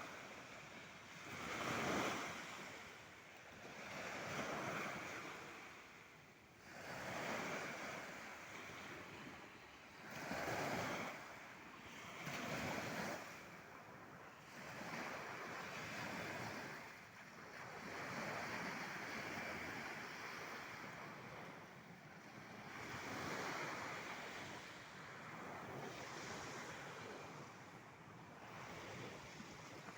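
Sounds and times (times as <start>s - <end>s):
small waves breaking on beach: 0.0s - 29.9s.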